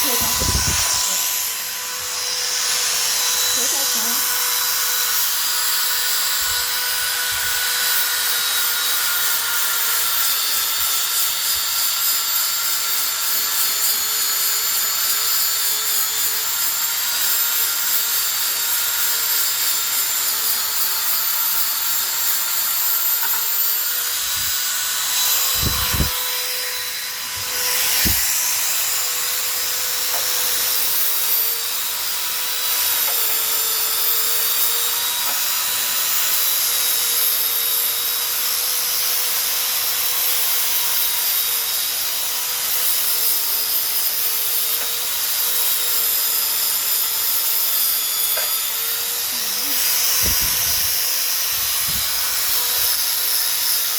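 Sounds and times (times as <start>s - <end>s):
electric sander on wood: 0.0s - 53.9s.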